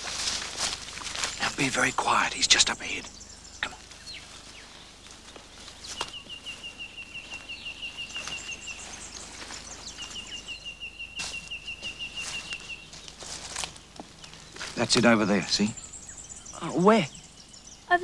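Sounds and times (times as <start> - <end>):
birds chirping: 0.0 - 18.0
bird trilling: 0.8 - 18.0.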